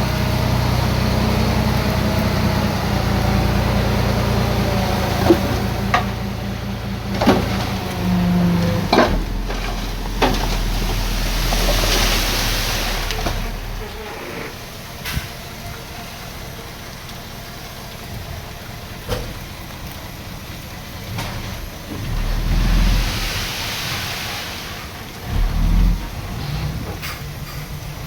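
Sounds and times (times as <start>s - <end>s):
diesel engine rumble: 0.0s - 28.0s.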